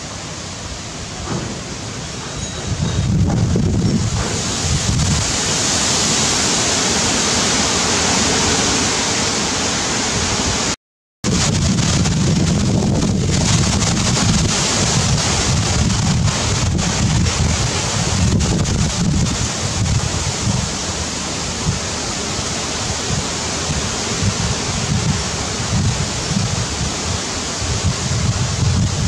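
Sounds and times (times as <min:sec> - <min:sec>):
wind buffeting microphone: 0:01.1 - 0:08.8, 0:10.1 - 0:29.0.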